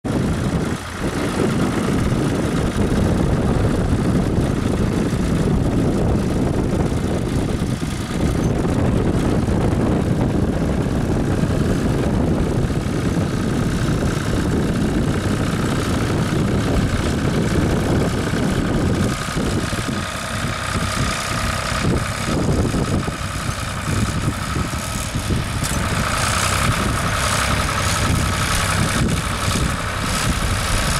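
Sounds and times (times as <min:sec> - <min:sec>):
tractor engine under load: 0:00.0 - 0:30.9.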